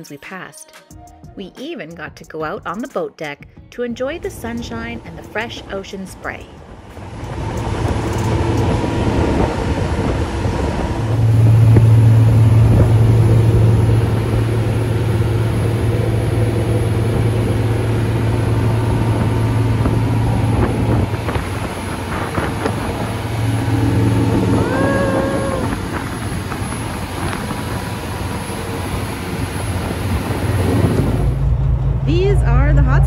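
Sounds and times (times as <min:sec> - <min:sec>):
boat engines droning: 0:04.0 - 0:33.0
churning wake: 0:04.1 - 0:32.9
wind rushing: 0:04.2 - 0:33.0.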